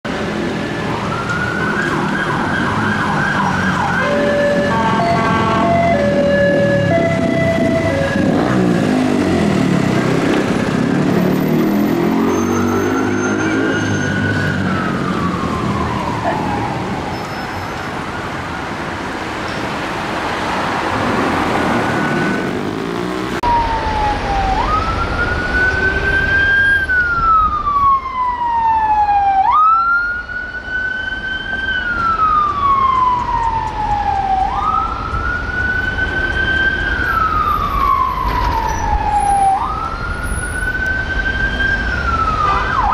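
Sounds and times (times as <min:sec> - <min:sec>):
city traffic: 0:00.0 - 0:42.9
police sirens wailing: 0:00.1 - 0:42.9.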